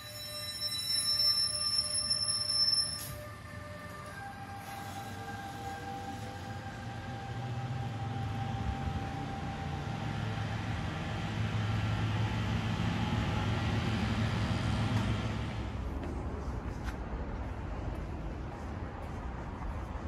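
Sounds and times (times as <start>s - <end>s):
train rumbling through station: 0.0s - 20.0s.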